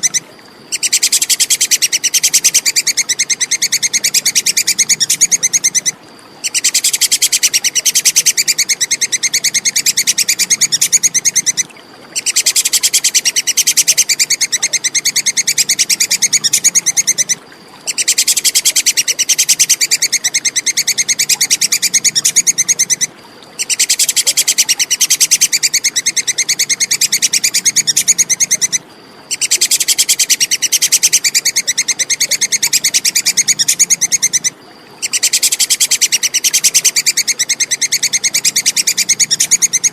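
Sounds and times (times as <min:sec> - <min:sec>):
squirrel chattering call: 0:00.0 - 0:39.9.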